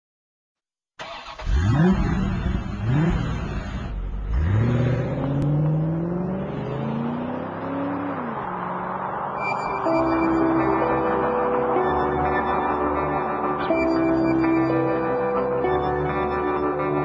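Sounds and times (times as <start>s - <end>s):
engine revving: 1.0s - 14.9s.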